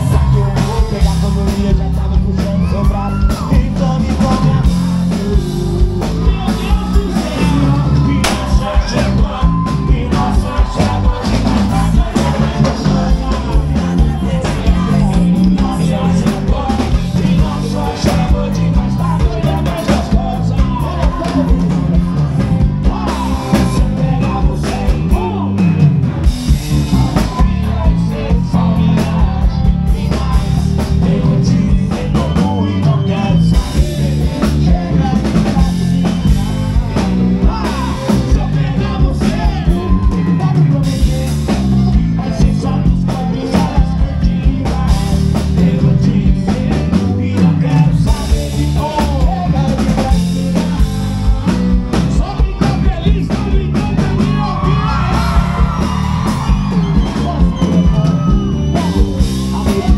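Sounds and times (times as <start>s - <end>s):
live band music: 0.0s - 59.9s
man singing into a microphone: 0.0s - 59.9s.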